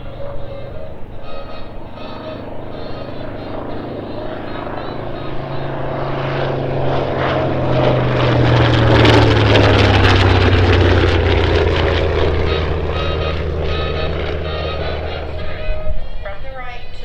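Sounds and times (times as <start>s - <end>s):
propeller plane engine passing: 0.0s - 17.0s.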